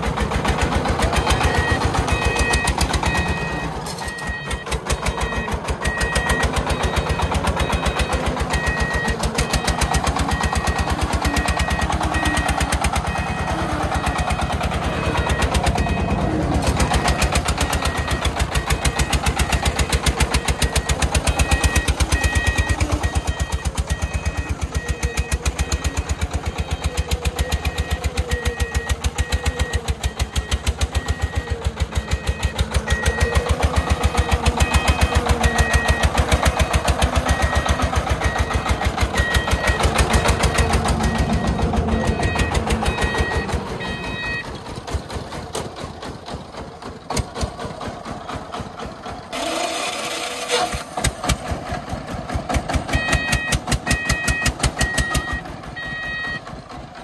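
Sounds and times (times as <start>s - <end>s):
single-cylinder diesel engine running: 0.0s - 57.0s
high-pitched beep: 1.1s - 44.5s, 52.9s - 56.5s.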